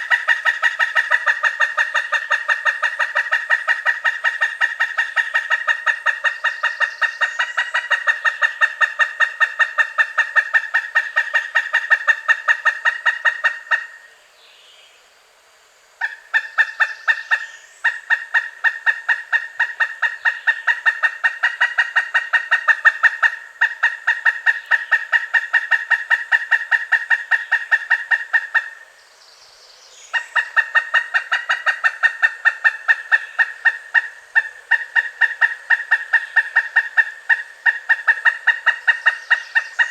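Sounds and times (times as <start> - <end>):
woodpecker calling kuk-kuk: 0.0 - 14.2, 16.0 - 29.2, 29.8 - 39.9.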